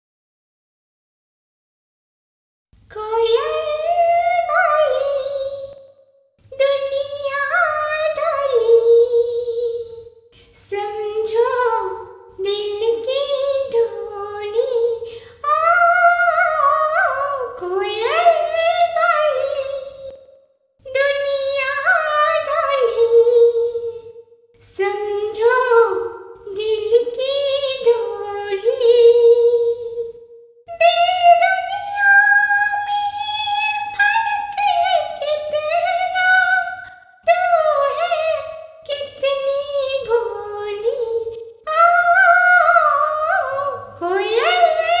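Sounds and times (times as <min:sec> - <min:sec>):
woman singing unaccompanied: 0:02.9 - 0:05.9, 0:06.5 - 0:20.2, 0:20.8 - 0:45.0.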